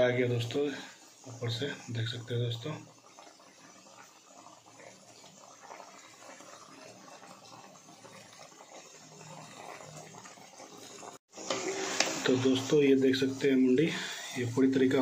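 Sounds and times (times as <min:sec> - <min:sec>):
curry gravy bubbling: 0:00.0 - 0:15.0.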